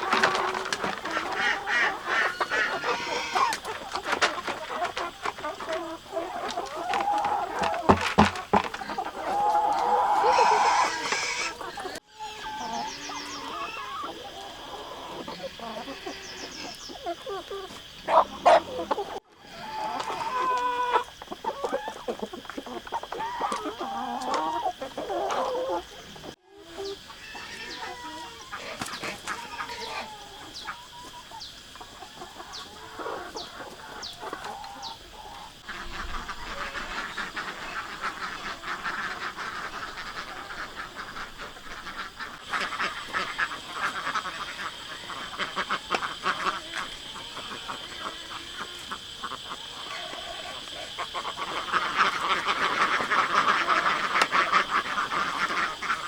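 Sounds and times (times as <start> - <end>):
chickens clucking: 0.0 - 56.0
poultry chatter: 0.0 - 56.0.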